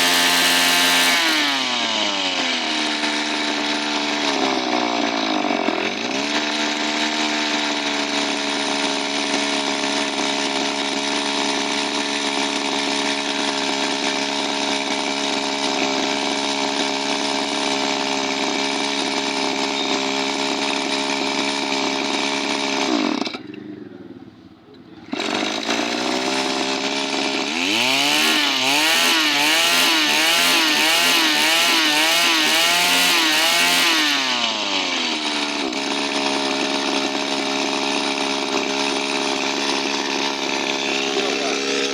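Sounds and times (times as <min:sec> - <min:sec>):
small two-stroke engine running: 0:00.0 - 0:41.9.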